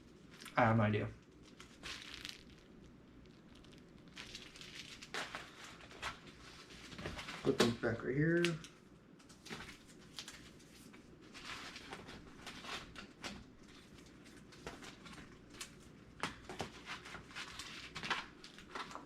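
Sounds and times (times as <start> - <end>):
plastic rustling: 0.0 - 7.8, 9.4 - 19.0.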